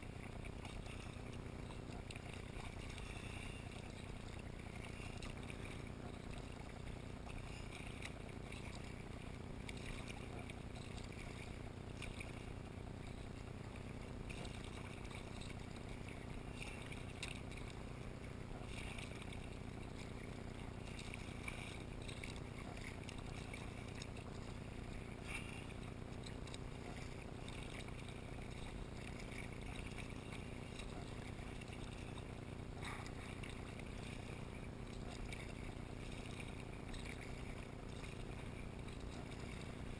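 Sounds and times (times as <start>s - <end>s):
paddle splashing in water: 0.0s - 39.9s
water rushing: 0.0s - 39.9s.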